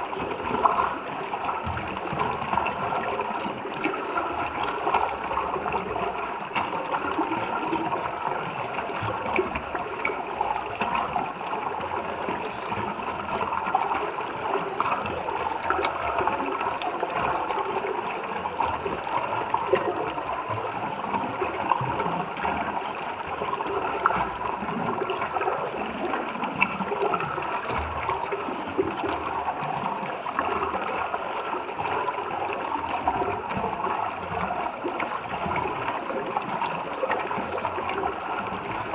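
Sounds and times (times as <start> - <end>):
running water bubbling: 0.0 - 38.9.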